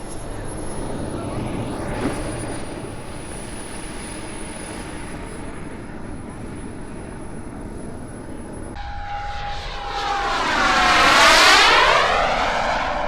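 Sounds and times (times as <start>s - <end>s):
model jet turbine whine: 0.0s - 13.0s.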